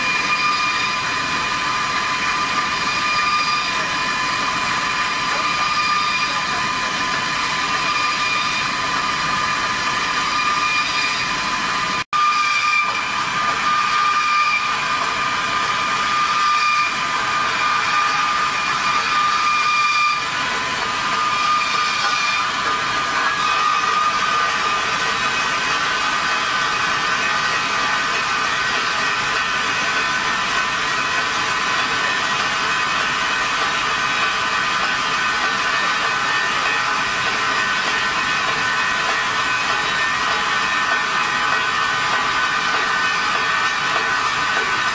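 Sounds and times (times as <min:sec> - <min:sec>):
wire saw cutting steel: 0:00.0 - 0:44.9.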